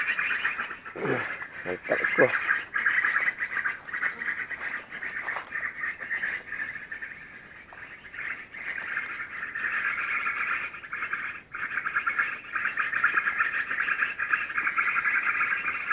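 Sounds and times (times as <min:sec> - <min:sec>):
pulsing buzzing animal chorus: 0:00.0 - 0:15.9.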